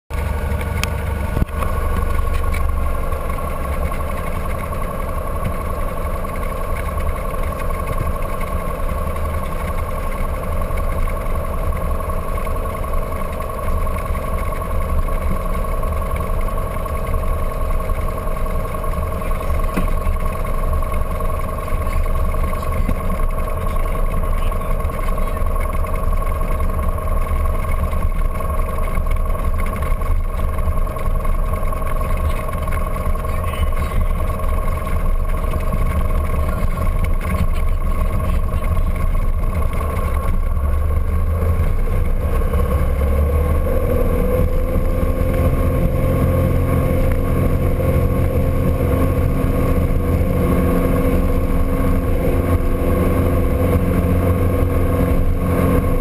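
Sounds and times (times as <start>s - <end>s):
light aircraft engine and propeller: 0.1s - 56.0s.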